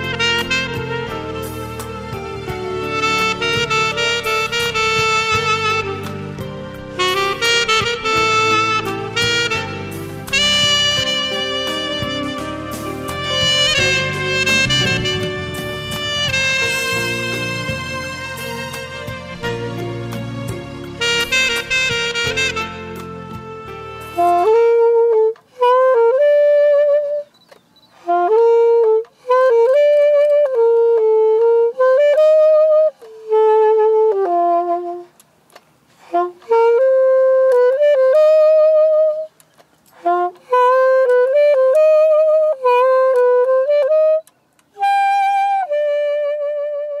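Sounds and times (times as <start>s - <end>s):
saxophone playing slow melody: 0.0s - 27.4s, 28.0s - 47.0s.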